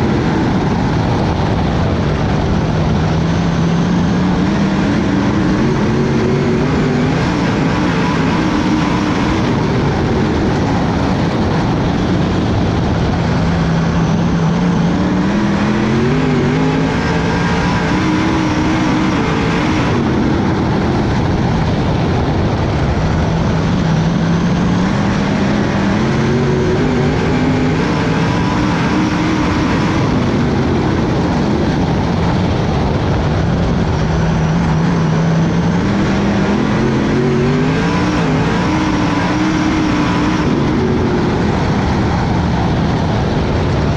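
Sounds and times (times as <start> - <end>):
race car engines revving: 0.0 - 43.9
roar of race cars: 0.0 - 43.9.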